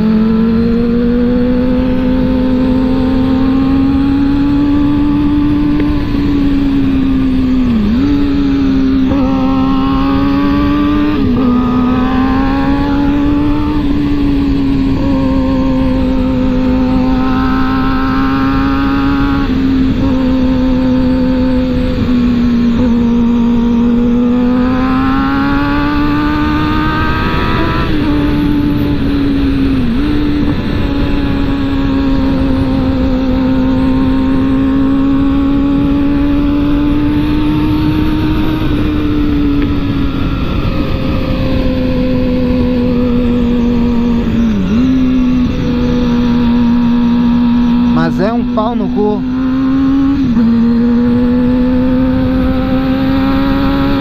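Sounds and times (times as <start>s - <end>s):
motorcycle engine cruising: 0.0s - 54.0s
wind rush: 0.0s - 54.0s.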